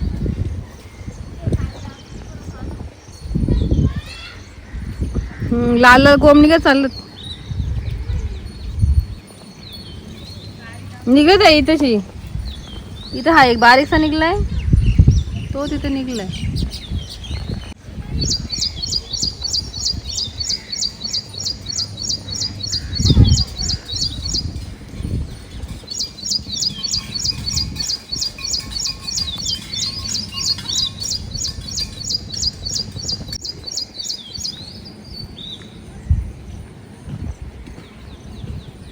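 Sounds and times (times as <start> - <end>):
bird chirping: 3.1 - 36.3.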